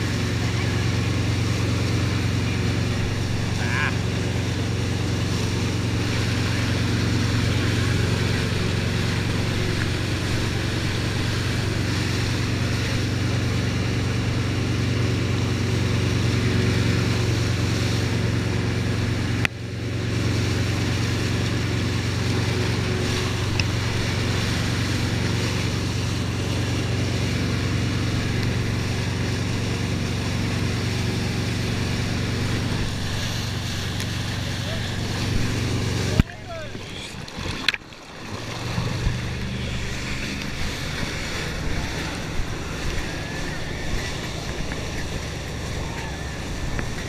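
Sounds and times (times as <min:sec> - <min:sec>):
boat engine droning: 0:00.0 - 0:47.0
rushing water spray: 0:00.0 - 0:47.0.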